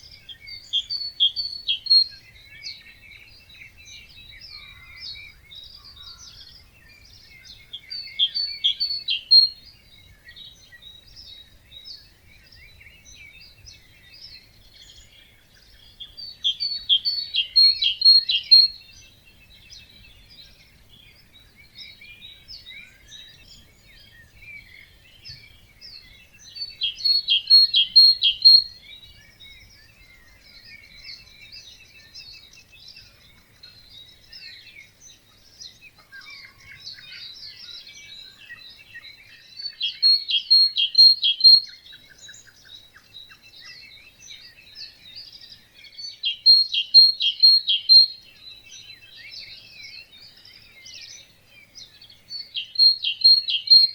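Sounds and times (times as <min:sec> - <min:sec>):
bird repeating short song: 0:00.0 - 0:12.0, 0:15.9 - 0:20.6, 0:21.2 - 0:32.9, 0:35.5 - 0:53.9
dawn chorus of birds: 0:00.0 - 0:53.9.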